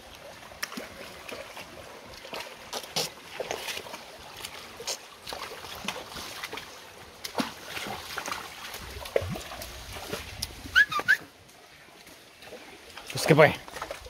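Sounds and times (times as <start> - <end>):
horse slurping water: 0.0 - 10.8, 12.3 - 14.0
stream trickling: 0.0 - 14.0.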